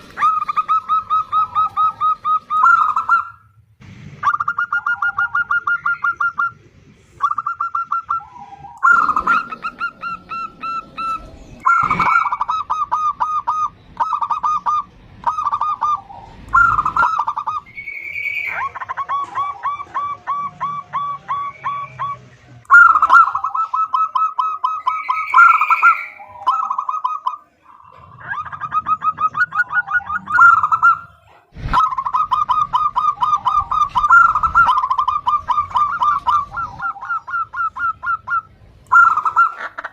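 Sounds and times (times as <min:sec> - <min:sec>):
dove calling: 0:00.0 - 0:39.9.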